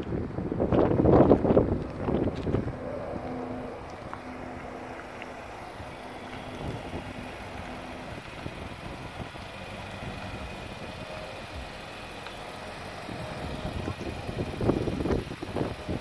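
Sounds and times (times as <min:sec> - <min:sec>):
pickup truck engine idling: 0:00.4 - 0:16.0.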